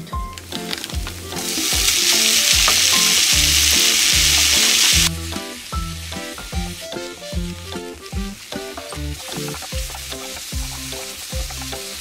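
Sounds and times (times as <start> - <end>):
vegetables and beef sizzling in pan: 0.0 - 12.0.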